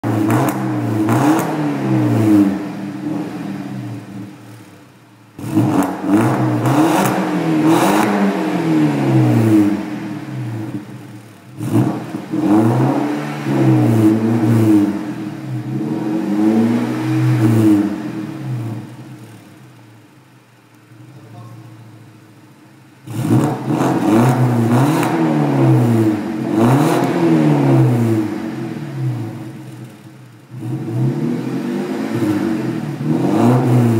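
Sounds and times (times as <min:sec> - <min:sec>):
car engine revving: 0:00.0 - 0:20.2, 0:21.8 - 0:33.9.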